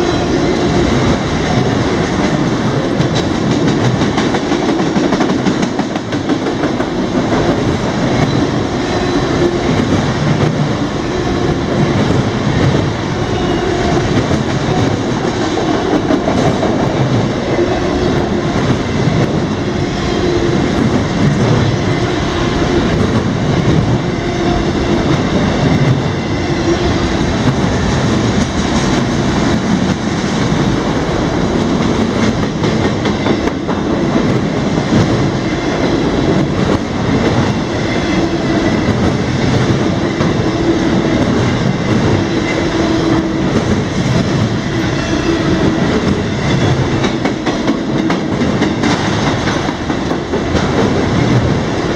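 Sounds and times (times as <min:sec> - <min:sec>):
freight train cars rolling by: 0:00.0 - 0:51.9
wheels clicking at rail joints: 0:00.0 - 0:51.9.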